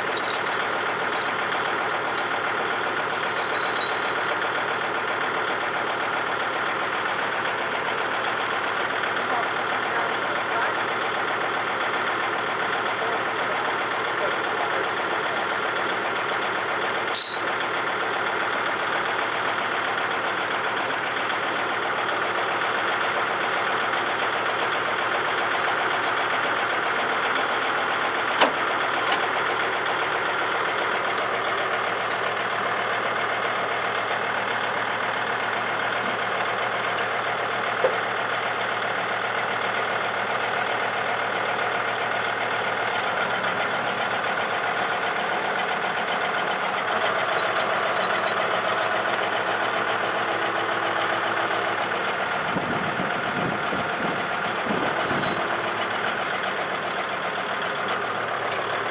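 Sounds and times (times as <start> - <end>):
diesel tractor engine idling: 0.0 - 58.9.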